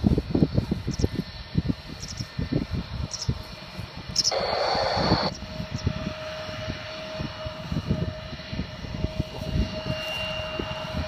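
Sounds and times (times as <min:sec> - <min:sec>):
jet engines whining: 0:00.0 - 0:11.0
wind buffeting microphone: 0:00.0 - 0:11.0.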